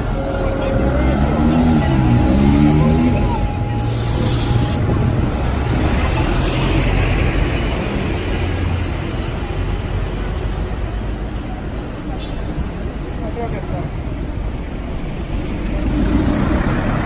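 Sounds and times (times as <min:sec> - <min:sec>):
bus engine rumble: 0:00.0 - 0:17.0
road and tyre noise: 0:00.0 - 0:17.0.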